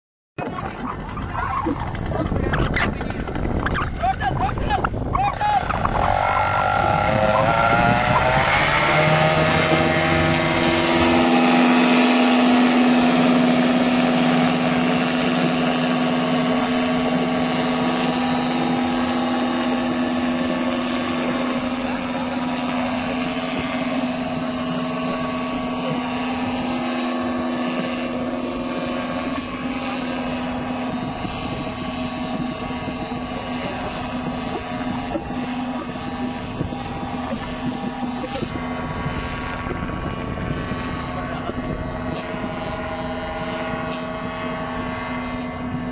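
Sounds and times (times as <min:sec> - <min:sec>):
paramotor engine and propeller: 0:00.4 - 0:45.9.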